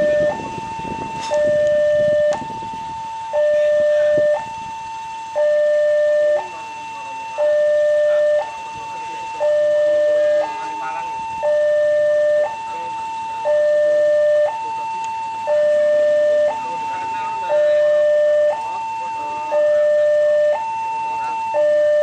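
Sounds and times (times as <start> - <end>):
level crossing two-tone alarm: 0.0 - 22.0.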